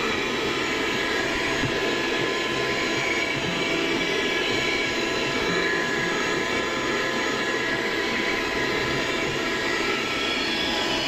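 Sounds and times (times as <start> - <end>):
hand vacuum motor whine: 0.0 - 11.0.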